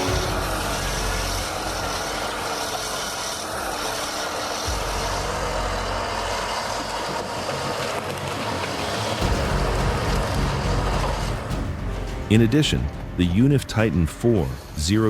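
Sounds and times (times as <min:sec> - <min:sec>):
heavy machine engine running: 0:00.0 - 0:12.4.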